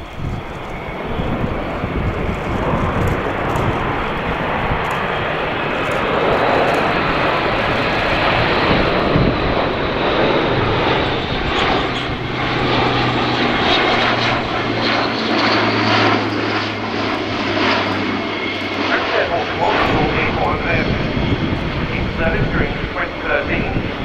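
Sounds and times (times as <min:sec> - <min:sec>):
low propeller hum: 0:00.0 - 0:24.0
turboprop engines running loud: 0:00.0 - 0:24.0.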